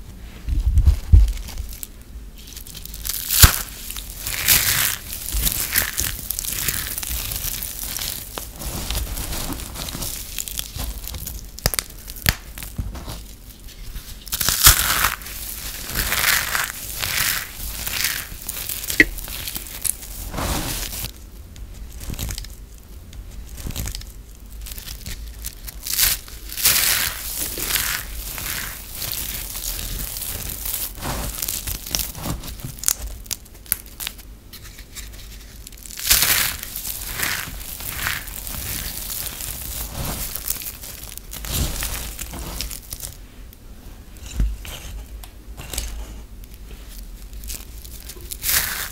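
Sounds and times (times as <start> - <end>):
soap shavings crunching by hand: 1.2 - 21.2, 21.8 - 22.7, 23.4 - 43.2, 45.6 - 48.9.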